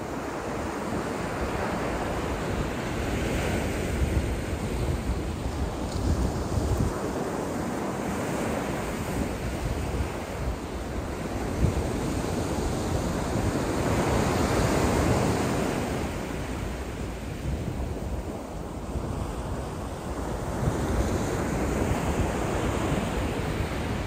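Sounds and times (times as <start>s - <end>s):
surf waves breaking on sand: 0.0s - 24.0s
wind buffeting microphone: 0.0s - 24.0s.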